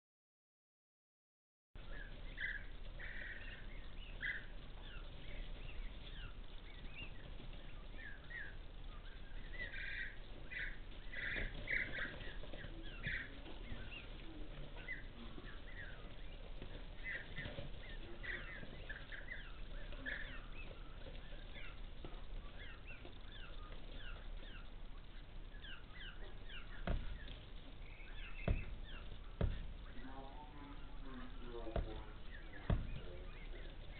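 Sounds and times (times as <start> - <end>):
chicks peeping: 1.8 - 33.9
faint low hum: 1.8 - 33.9.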